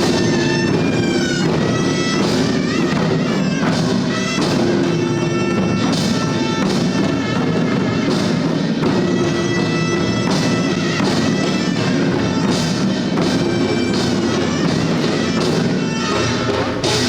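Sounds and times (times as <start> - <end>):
drum strokes: 0.0 - 17.0
reedy wind instrument: 0.0 - 17.0.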